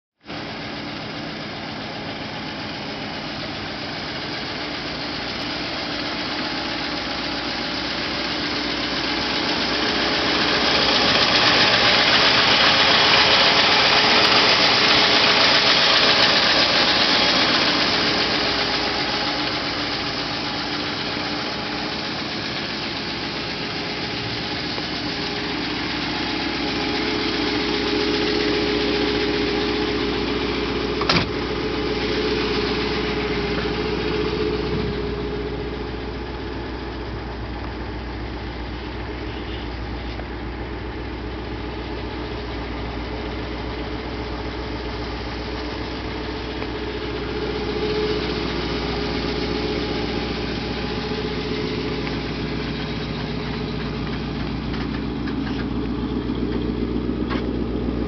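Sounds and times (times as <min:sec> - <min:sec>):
car engine idling: 0:00.2 - 0:58.0.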